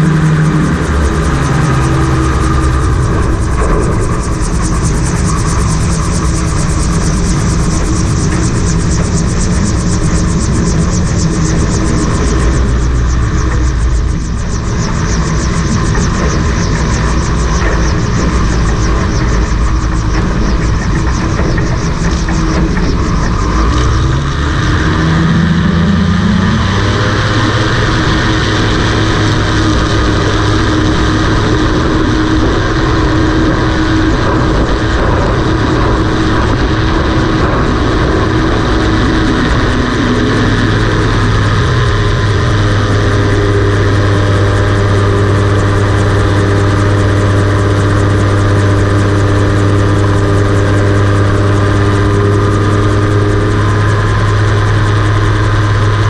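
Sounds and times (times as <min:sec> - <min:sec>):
gyroplane engine at high power: 0:00.0 - 0:56.0.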